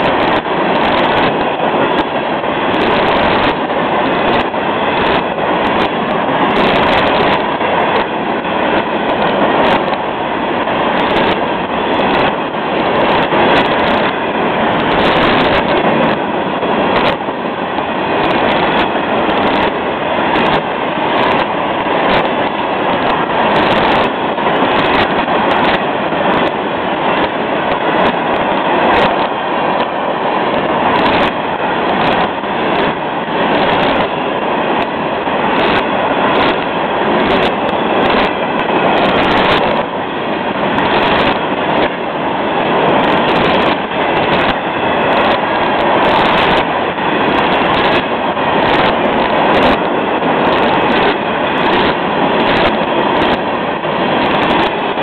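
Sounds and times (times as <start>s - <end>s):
freight train wheel rumble: 0.0s - 55.0s.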